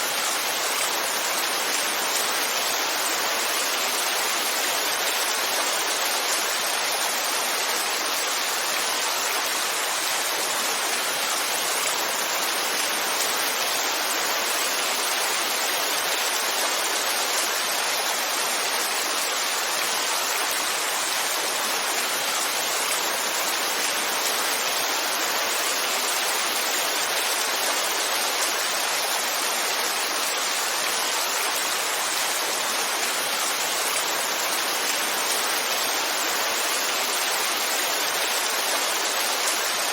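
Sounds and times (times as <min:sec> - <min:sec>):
heavy rainfall hiss: 0:00.0 - 0:39.9.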